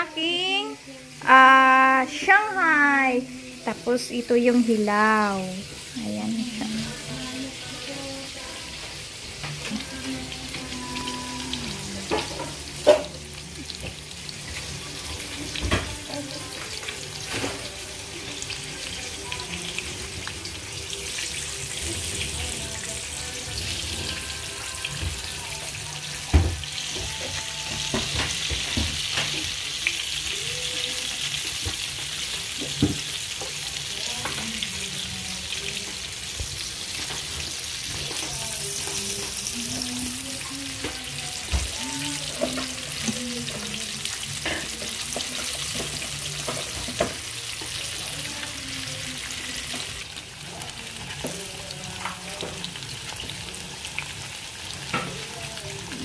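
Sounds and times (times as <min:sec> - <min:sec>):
chicken frying in hot oil: 0:01.0 - 0:56.0.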